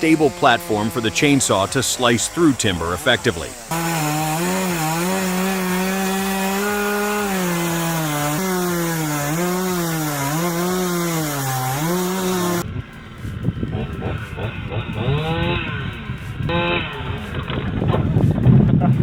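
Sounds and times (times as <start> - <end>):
chainsaw cutting timber: 0.0 - 18.7.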